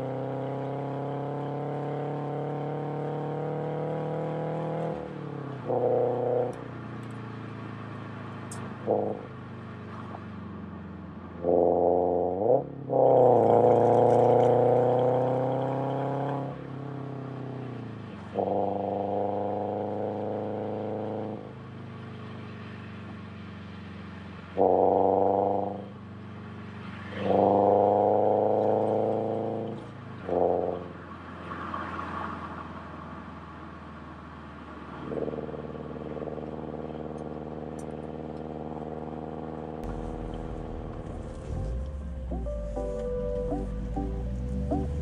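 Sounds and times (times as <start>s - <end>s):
car engine rumbling: 0.0s - 45.0s.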